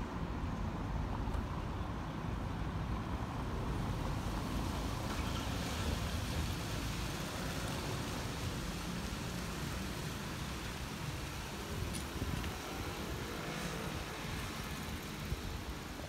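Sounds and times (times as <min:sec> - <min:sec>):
low rumble of road traffic: 0:00.0 - 0:16.0.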